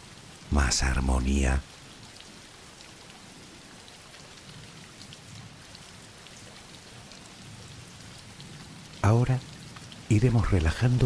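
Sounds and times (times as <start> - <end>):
soft rain falling: 0.0 - 11.0.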